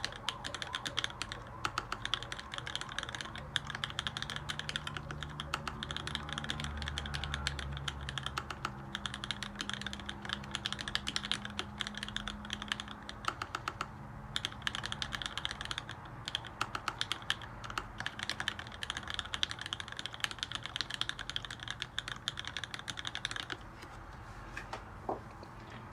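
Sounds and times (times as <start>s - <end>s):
mechanical keyboard typing: 0.0s - 23.7s.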